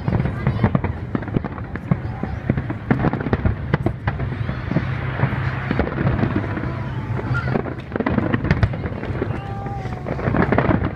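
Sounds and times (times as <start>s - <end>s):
fireworks bangs and crackles: 0.0s - 10.9s
low rumble: 0.0s - 10.9s.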